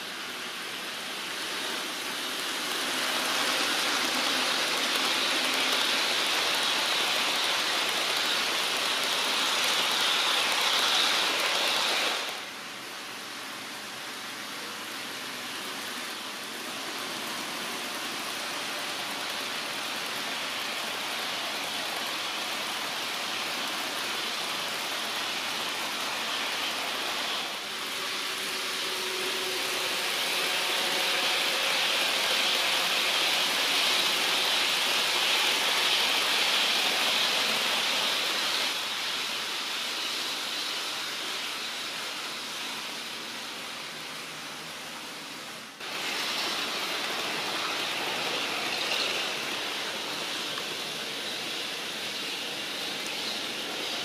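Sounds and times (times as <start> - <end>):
model locomotive motors: 0.0 - 54.0
model train wheels on rails: 0.0 - 54.0.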